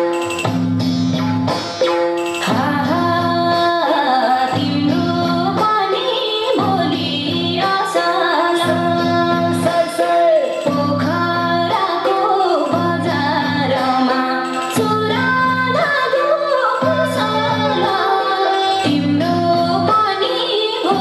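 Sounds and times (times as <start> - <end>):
woman singing: 2.4 - 21.0.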